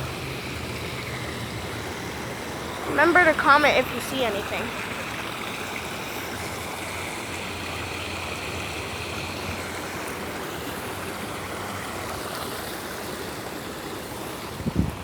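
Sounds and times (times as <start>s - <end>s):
water splashing into a pond: 0.0s - 15.0s.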